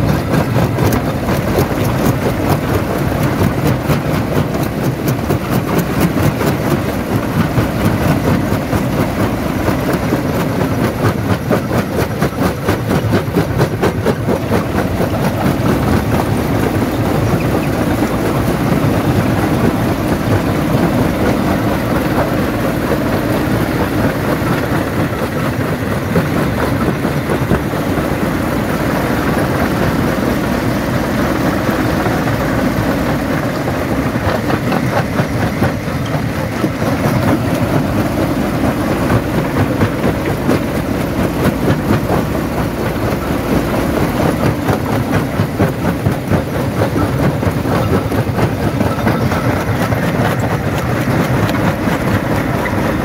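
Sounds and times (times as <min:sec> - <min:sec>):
low machine drone: 0:00.0 - 0:53.0.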